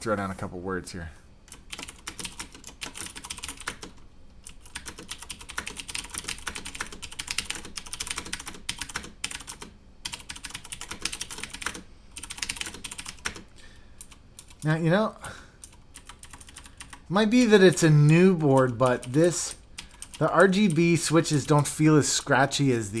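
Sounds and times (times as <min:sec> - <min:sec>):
typing on mechanical keyboard: 0:01.5 - 0:14.7, 0:15.6 - 0:21.6.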